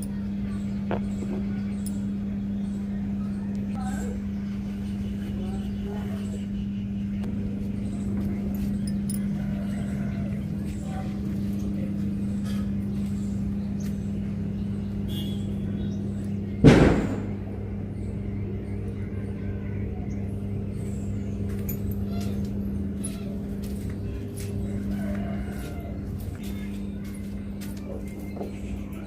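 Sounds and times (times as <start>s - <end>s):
vehicle humming: 0.0s - 29.0s.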